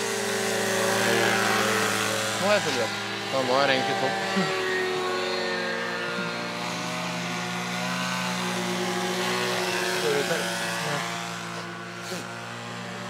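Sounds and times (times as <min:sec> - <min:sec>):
model airplane engine flying past: 0:00.0 - 0:13.0.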